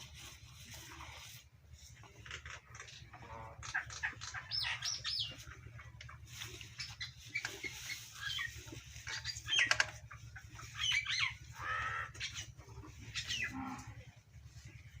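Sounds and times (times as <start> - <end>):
steady low hum: 0.0 - 15.0
birds chirping: 2.1 - 15.0.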